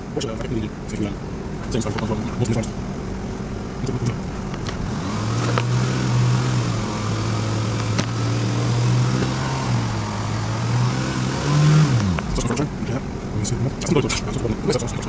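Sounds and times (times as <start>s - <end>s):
misfiring car engine revving: 0.1s - 15.0s.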